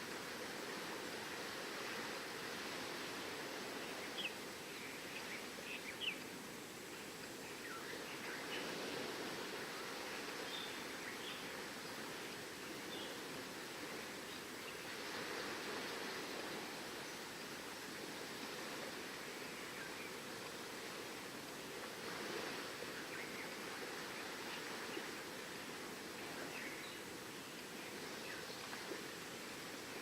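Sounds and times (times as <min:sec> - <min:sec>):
ocean surf: 0:00.0 - 0:05.3, 0:08.1 - 0:30.0.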